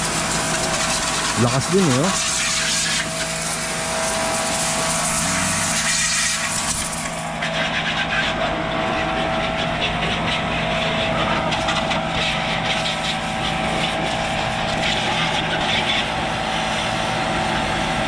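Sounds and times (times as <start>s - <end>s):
pressure washer pump hum: 0.0s - 18.0s
water jet hissing: 0.0s - 18.0s.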